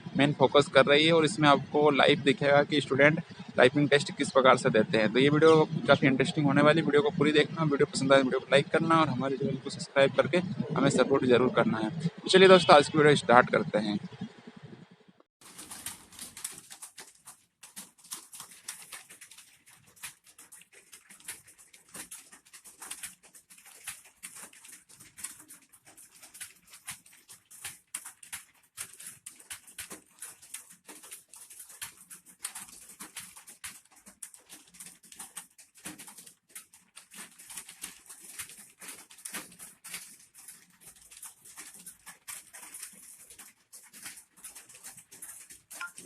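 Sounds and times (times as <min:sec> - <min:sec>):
fast keyboard typing: 0:00.0 - 0:14.8, 0:15.4 - 0:46.0.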